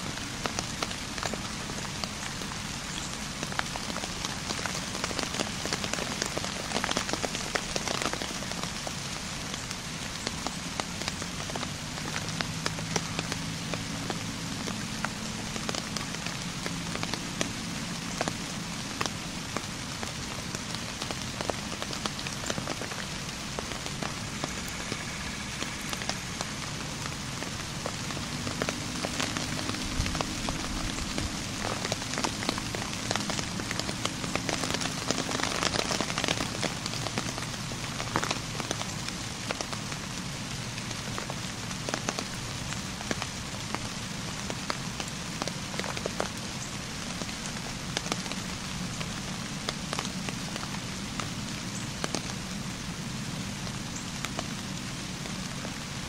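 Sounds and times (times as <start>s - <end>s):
raindrop ticks: 0.0s - 56.0s
steady rain hiss: 0.0s - 56.0s.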